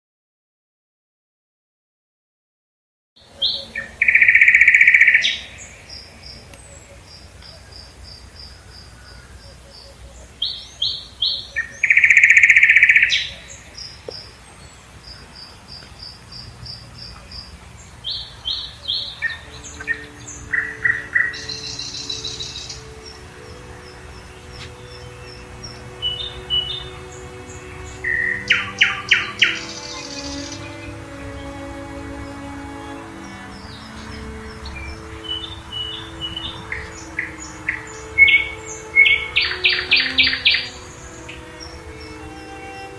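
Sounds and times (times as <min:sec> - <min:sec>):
faint sustained musical tones: 0:03.2 - 0:42.9
songbird singing trills: 0:03.2 - 0:42.9.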